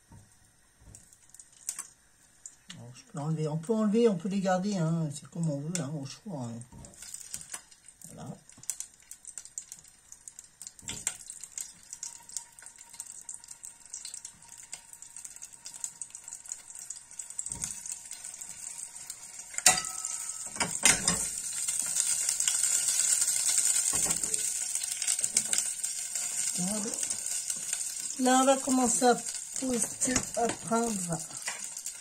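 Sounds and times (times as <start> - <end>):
tomatoes sizzling in oil: 0.0 - 32.0.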